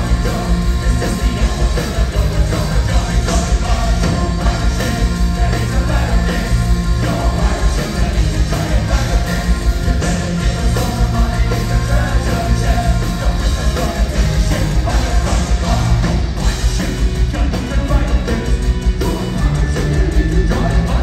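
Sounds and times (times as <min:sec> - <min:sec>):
heavy metal band playing live: 0:00.0 - 0:21.0
person singing: 0:00.0 - 0:21.0.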